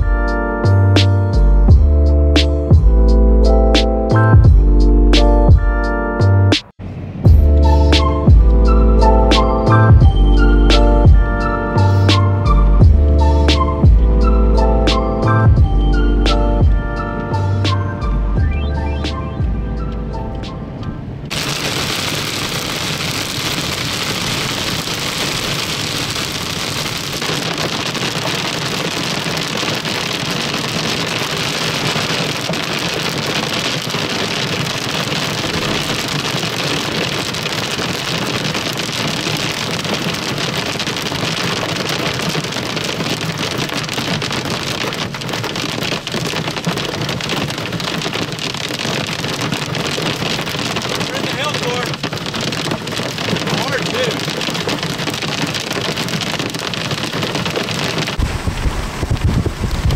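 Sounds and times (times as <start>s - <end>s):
heavy rain falling: 0.0s - 3.0s, 6.6s - 19.5s, 21.2s - 59.9s.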